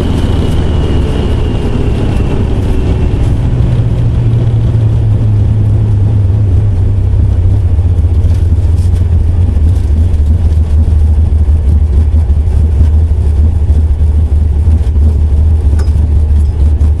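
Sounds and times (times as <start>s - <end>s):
race car engine idling rough: 0.0s - 17.0s.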